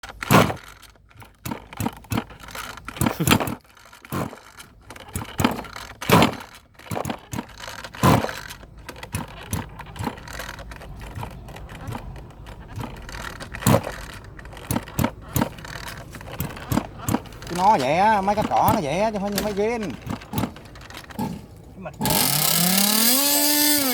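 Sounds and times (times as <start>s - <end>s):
hard objects knocking and clattering: 0.0s - 23.9s
rustling: 0.0s - 23.9s.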